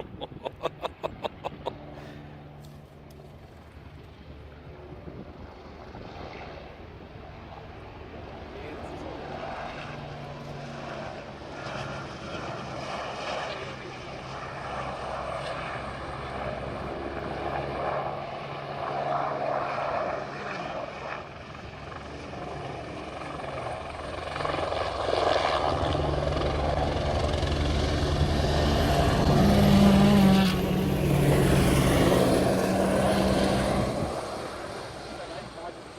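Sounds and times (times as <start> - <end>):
helicopter rotor and engine: 0.0 - 35.9.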